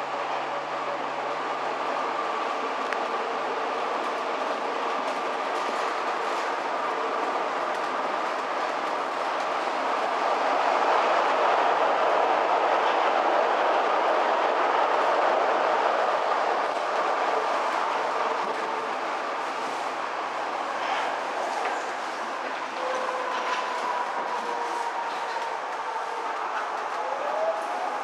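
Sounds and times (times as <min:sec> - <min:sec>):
train wheels on track: 0:00.0 - 0:28.0.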